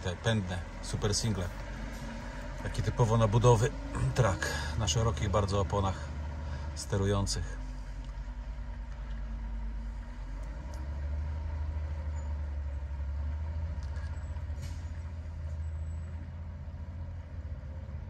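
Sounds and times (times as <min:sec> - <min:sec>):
truck diesel engine rumble: 0:00.0 - 0:18.0.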